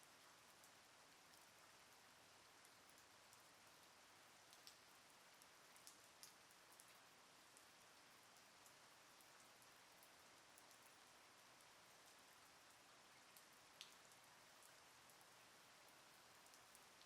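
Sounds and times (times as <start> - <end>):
light rain: 0.0 - 17.0.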